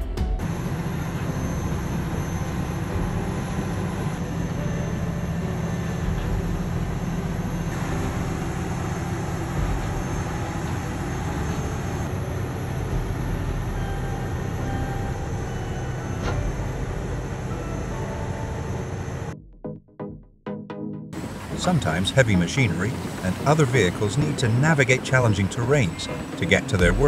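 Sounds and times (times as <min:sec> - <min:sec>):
diesel engine running under load: 0:00.4 - 0:19.4, 0:21.2 - 0:27.0.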